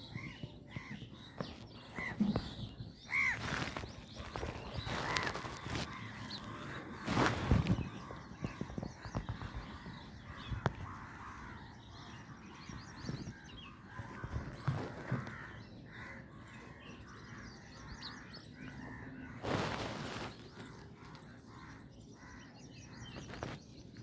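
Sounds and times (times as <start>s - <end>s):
sparrows chirping: 0.0s - 24.0s
crows cawing: 0.1s - 22.6s.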